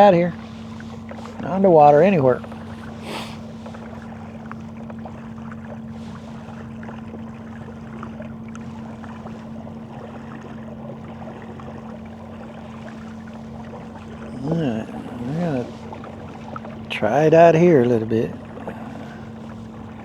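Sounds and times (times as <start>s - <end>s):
low hum: 0.0s - 20.0s
water lapping against kayak: 0.0s - 20.0s.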